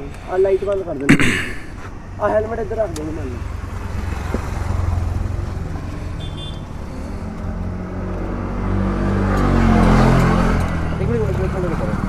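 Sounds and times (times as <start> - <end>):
motorcycle engine idling and revving: 1.7 - 12.0.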